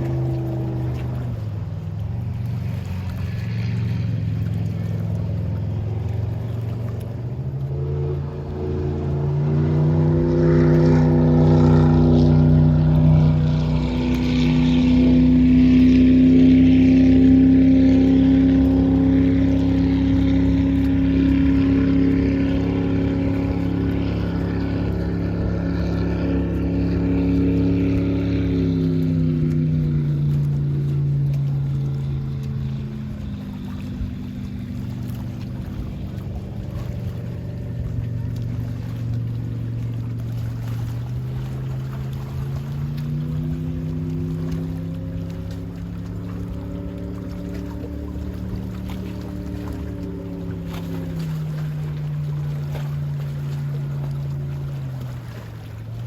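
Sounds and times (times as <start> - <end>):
speedboat engine revving: 0.0 - 56.0.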